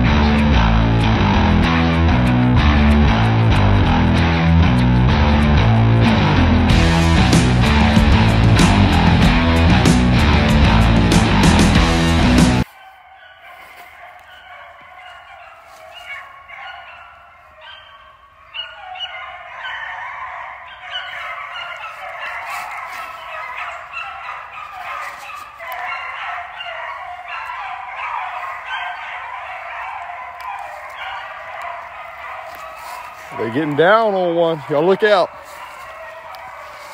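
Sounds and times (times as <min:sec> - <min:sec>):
hounds baying: 0:00.0 - 0:36.9.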